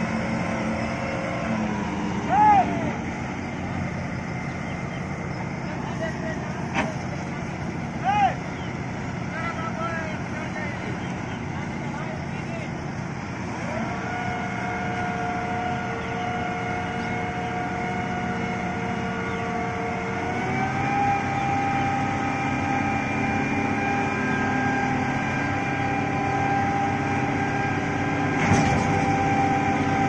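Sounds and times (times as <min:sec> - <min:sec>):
combine harvester diesel engine whining: 0:00.0 - 0:30.0.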